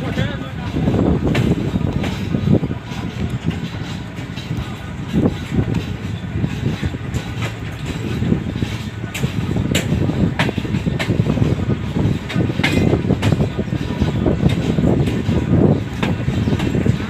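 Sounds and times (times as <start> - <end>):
train rumbling on track: 0.0 - 17.0
train wheel clicks: 0.0 - 17.0.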